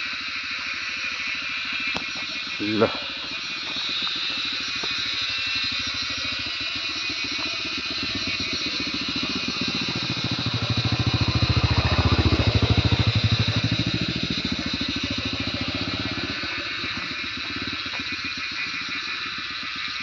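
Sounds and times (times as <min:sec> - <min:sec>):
high insect buzz: 0:00.0 - 0:20.0
small engine running: 0:00.0 - 0:20.0.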